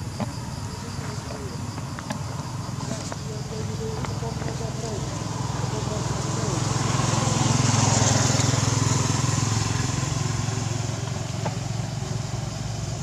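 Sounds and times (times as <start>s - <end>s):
small engine humming: 0.2s - 13.0s.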